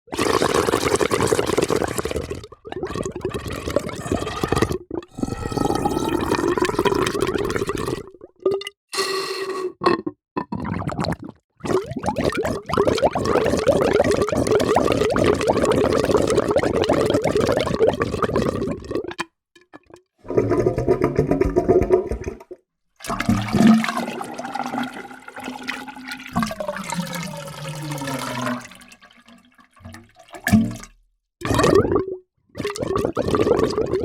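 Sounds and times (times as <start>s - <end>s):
water gurgling: 0.1s - 8.6s, 9.9s - 19.2s, 20.2s - 34.0s.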